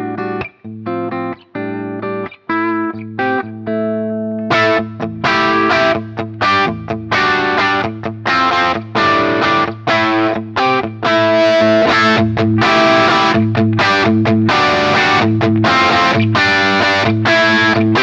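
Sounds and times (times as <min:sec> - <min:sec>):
overdriven electric guitar chords: 0:00.0 - 0:18.0.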